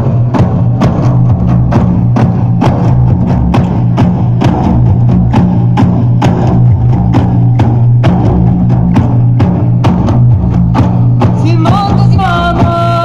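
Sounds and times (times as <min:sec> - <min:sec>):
frame drums beating: 0:00.0 - 0:13.0.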